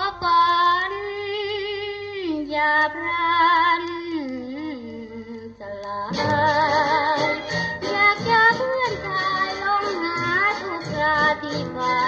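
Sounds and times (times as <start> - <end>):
old record popular song melody: 0.0 - 12.0.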